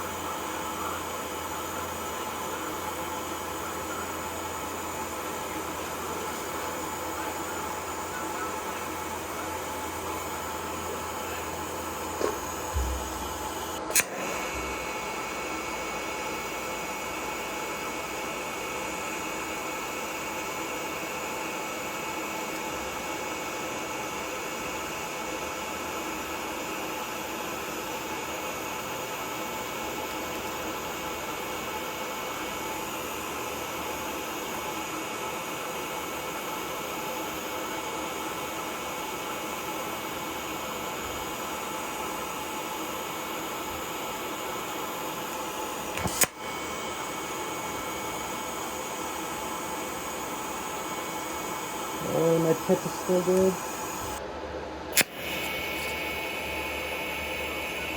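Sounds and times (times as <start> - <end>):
welding arc hissing: 0.0 - 54.2, 54.9 - 57.9
faint steady whine: 0.0 - 57.9.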